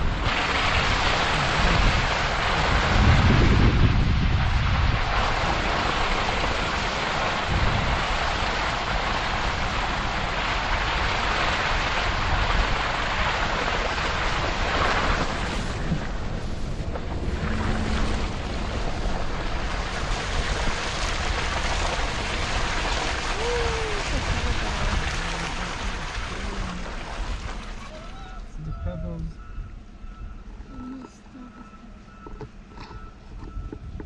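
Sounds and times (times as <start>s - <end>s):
wind buffeting microphone: 0.0s - 27.8s.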